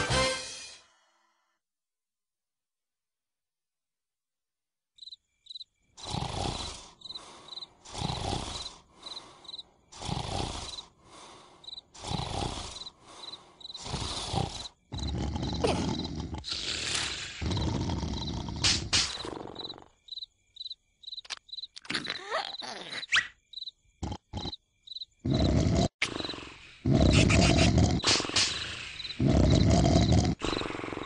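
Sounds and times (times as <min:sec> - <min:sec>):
crickets chirping: 0:05.0 - 0:31.0.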